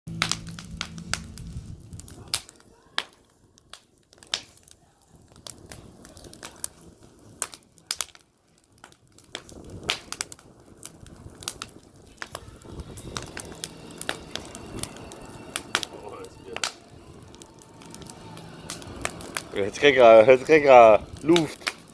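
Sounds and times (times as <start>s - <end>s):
campfire crackling and popping: 0.1s - 21.9s.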